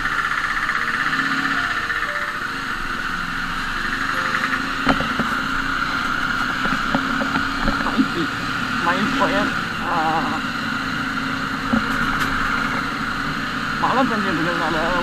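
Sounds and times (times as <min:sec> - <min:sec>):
motorcycle engine running at low speed: 0:00.0 - 0:15.0.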